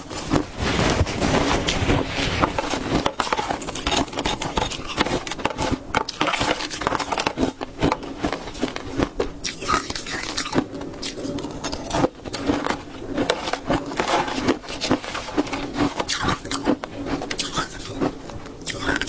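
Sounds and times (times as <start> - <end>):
ice being chewed crunching: 1.4 - 19.0.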